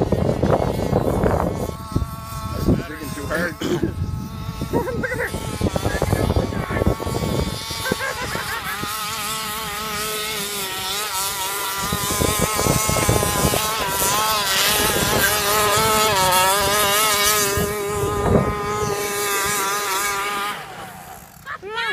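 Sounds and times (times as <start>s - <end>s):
small petrol engine running: 0.0s - 21.9s.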